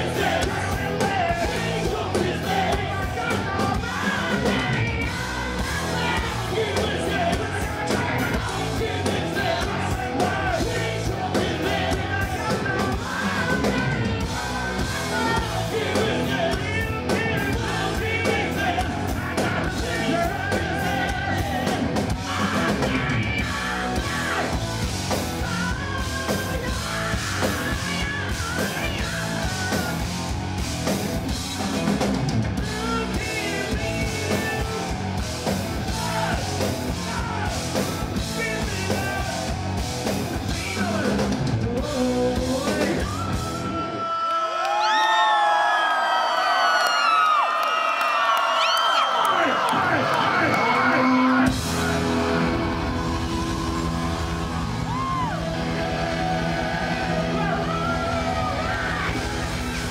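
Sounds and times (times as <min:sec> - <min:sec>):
man singing lead vocals: 0:00.0 - 0:30.3, 0:32.5 - 0:44.7, 0:49.4 - 0:59.9
live hard rock band: 0:00.0 - 0:44.1, 0:49.6 - 0:59.9.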